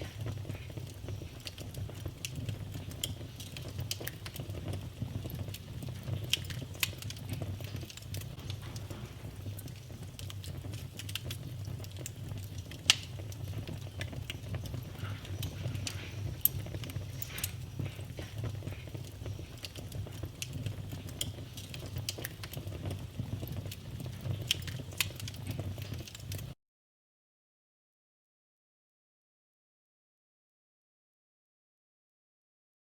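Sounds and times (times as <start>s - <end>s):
low fire rumble: 0.0s - 26.6s
wood fire crackling and popping: 0.0s - 26.6s.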